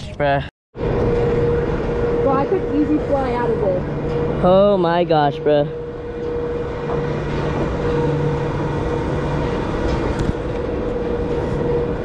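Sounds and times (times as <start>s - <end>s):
constant mid-pitched tone: 0.2s - 12.0s
roller coaster machinery hum: 0.8s - 12.0s.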